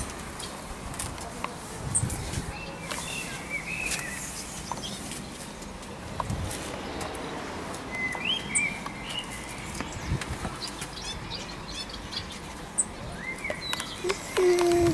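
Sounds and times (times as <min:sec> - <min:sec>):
outdoor background noise: 0:00.0 - 0:14.9
songbirds chirping: 0:00.0 - 0:14.9.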